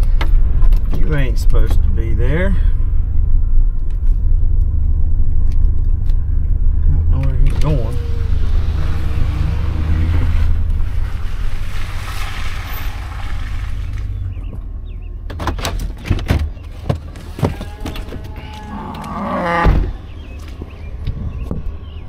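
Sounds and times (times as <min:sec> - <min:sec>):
vehicle engine rumble: 0:00.0 - 0:22.0.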